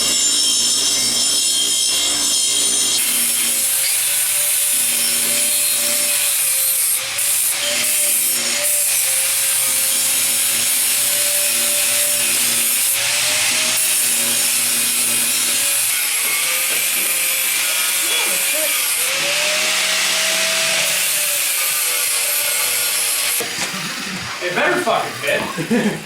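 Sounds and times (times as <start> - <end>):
angle grinder on steel: 0.0 - 26.0.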